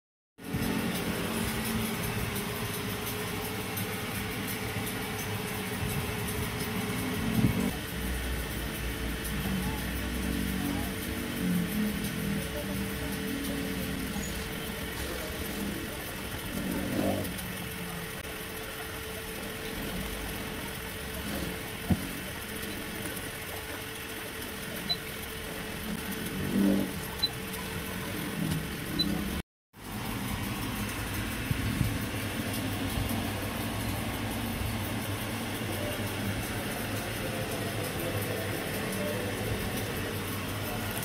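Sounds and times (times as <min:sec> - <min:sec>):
mechanical background noise: 0:00.4 - 0:41.0
steady low hum: 0:00.4 - 0:41.0.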